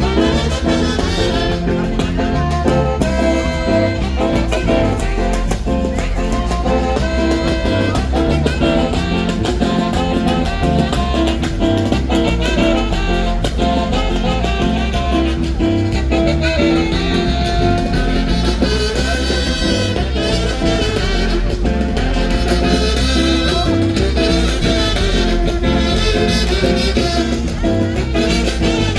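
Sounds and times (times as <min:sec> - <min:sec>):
upbeat latin band music: 0:00.0 - 0:28.9.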